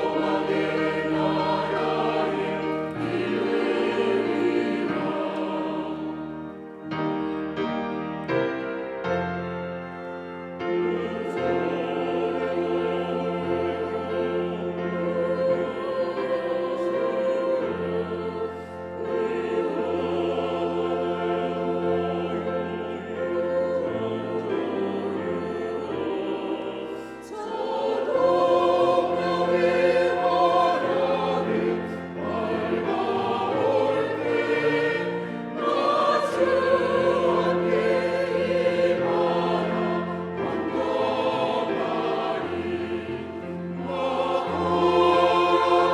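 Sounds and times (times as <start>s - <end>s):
church choir singing: 0.0s - 45.9s.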